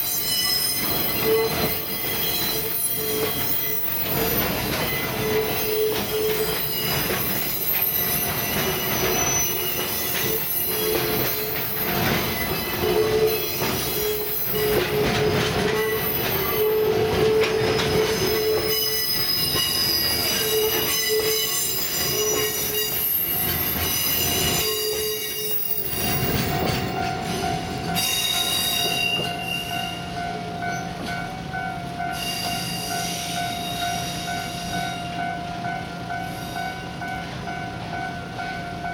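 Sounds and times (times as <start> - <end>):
wheels squealing on rails: 0.0 - 35.4, 36.1 - 38.0.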